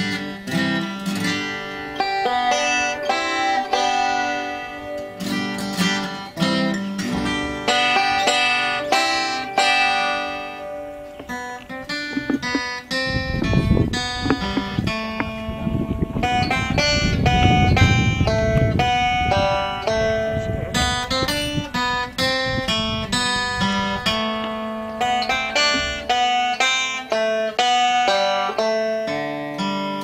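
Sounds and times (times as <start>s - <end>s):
banjo picking: 0.0s - 30.0s
guitar backing: 0.0s - 30.0s.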